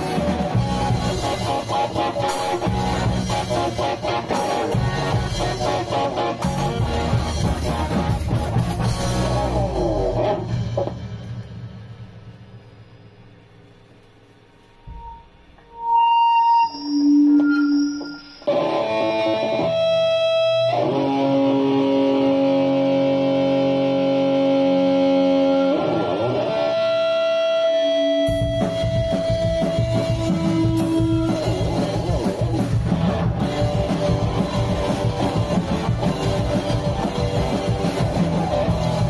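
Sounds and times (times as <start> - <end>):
rock band playing: 0.0 - 11.4, 18.5 - 39.0
electric guitars ringing: 0.0 - 14.0, 14.6 - 39.0
drums: 0.0 - 16.2, 17.3 - 39.0.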